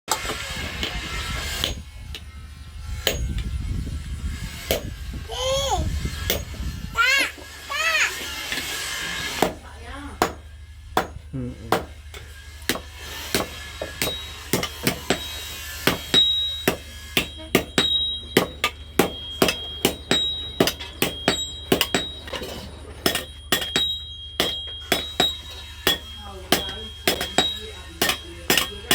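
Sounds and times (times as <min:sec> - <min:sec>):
hammer blows on metal: 0:00.1 - 0:28.9.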